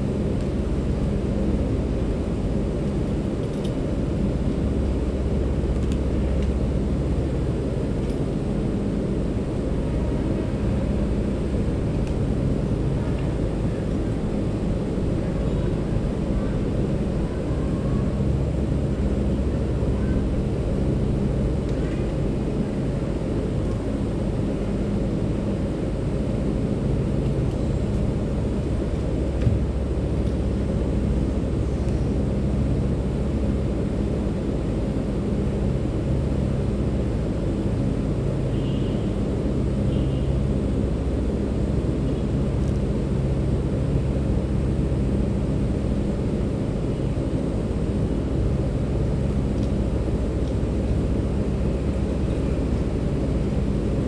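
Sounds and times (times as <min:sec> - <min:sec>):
low mechanical hum: 0:00.0 - 0:54.0
steady low rumble: 0:00.0 - 0:54.0.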